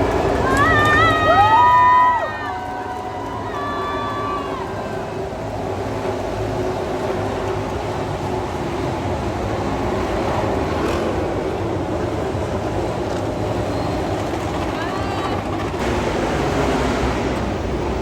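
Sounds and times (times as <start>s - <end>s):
racing motorcycle engines droning: 0.0s - 18.0s.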